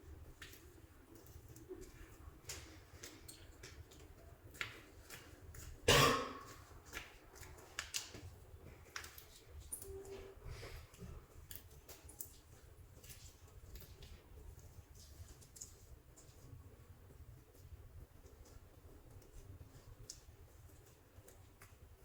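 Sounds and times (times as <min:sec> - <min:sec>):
hands working soft clay: 0:00.0 - 0:05.8, 0:06.5 - 0:22.0.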